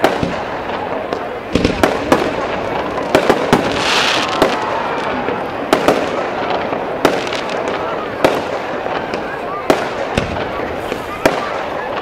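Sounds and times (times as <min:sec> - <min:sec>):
firework shells bursting: 0:00.0 - 0:12.0
high firework hiss: 0:00.0 - 0:12.0.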